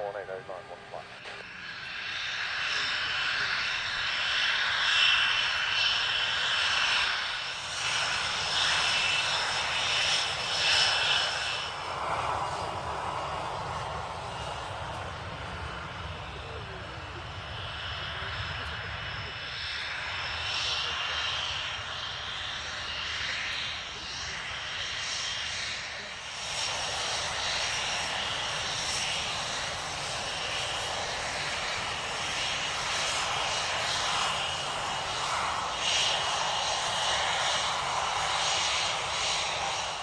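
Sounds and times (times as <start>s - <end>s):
jet engines with high whine: 0.0s - 40.0s.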